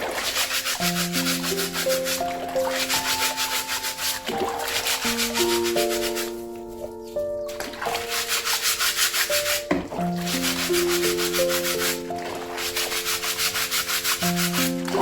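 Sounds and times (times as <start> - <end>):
scrub brush scrubbing: 0.0 - 6.8, 7.6 - 15.0.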